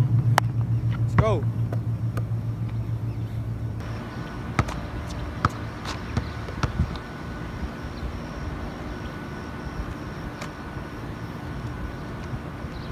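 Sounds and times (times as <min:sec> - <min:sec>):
outdoor background noise: 0:00.0 - 0:12.9
basketball bouncing on asphalt: 0:00.1 - 0:03.2, 0:03.8 - 0:12.9.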